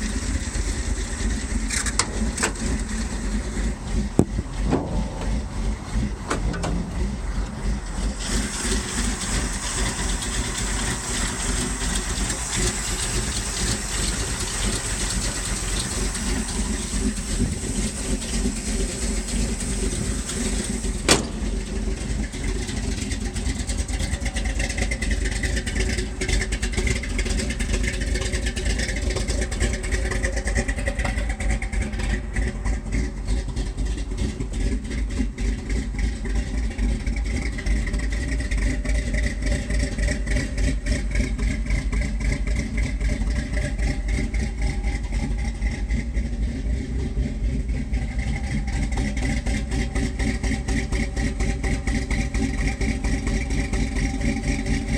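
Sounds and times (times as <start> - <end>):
car engine idling roughly: 0.0 - 54.9.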